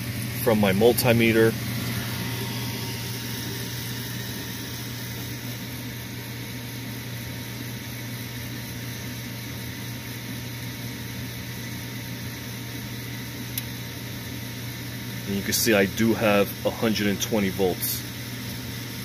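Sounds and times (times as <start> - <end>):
furnace motor humming: 0.0 - 19.0.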